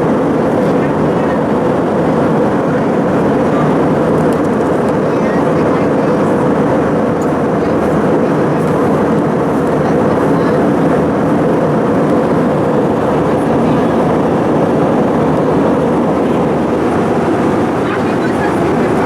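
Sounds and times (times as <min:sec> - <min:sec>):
airplane engines roaring in cabin: 0:00.0 - 0:19.0.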